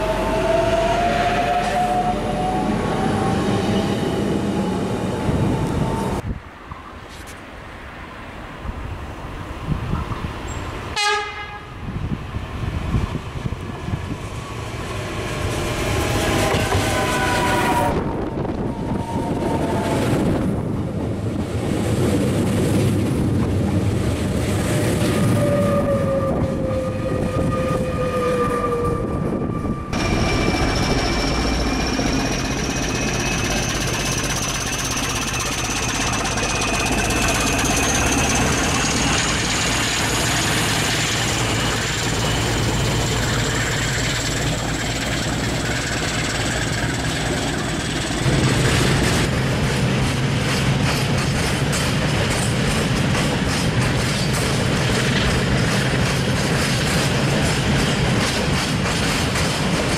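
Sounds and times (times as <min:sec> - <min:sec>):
diesel locomotive high whine: 0:00.0 - 0:06.4, 0:09.6 - 0:59.9
passenger train passing with whine: 0:00.0 - 0:59.9.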